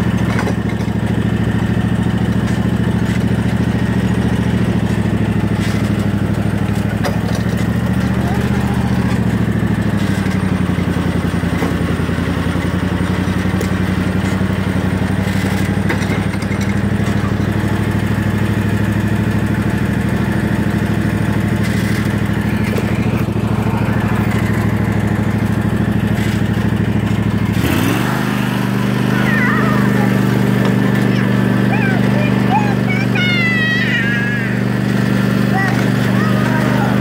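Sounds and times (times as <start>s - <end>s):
riding mower engine running: 0.0s - 37.0s.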